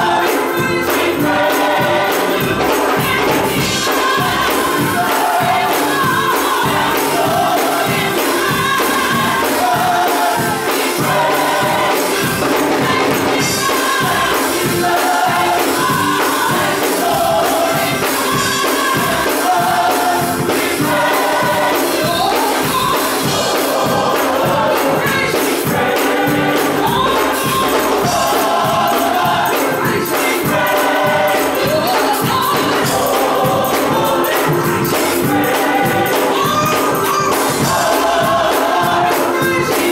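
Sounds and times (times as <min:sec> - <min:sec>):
band accompaniment: 0:00.0 - 0:39.9
gospel choir singing: 0:00.0 - 0:39.9
tambourine shaking: 0:00.0 - 0:39.9.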